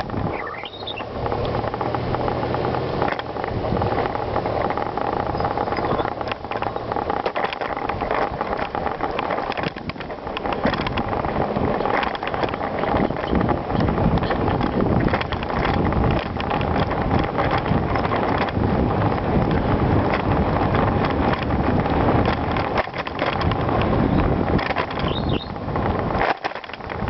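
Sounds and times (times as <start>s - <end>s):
bicycle tyre noise: 0.0s - 27.0s
bike rattles and clicks: 0.0s - 27.0s.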